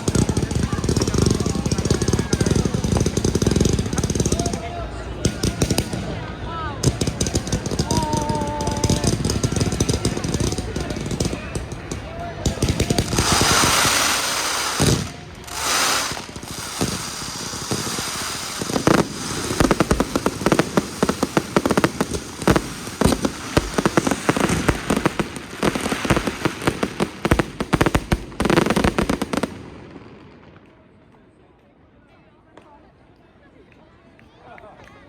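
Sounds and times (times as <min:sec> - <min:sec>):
fireworks hissing: 0:00.0 - 0:06.2, 0:06.8 - 0:29.8
fireworks bangs and crackling: 0:00.0 - 0:31.3.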